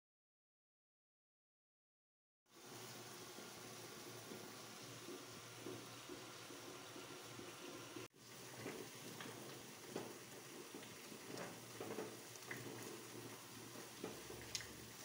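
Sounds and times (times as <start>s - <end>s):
milk tea simmering: 2.5s - 15.0s.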